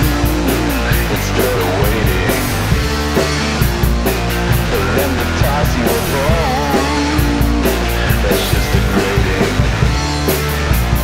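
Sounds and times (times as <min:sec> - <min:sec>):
fast cymbal beat: 0:00.0 - 0:11.0
punk rock song: 0:00.0 - 0:11.0.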